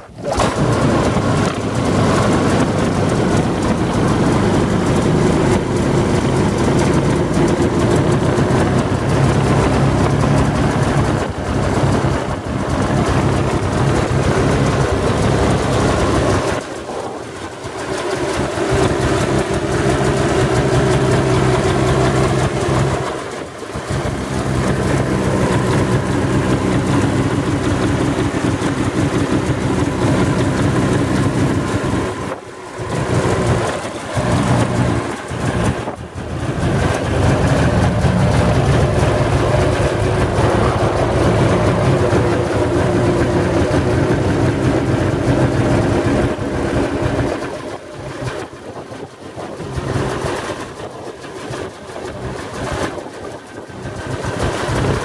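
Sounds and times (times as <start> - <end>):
snowmobile engine idling: 0.0 - 55.0.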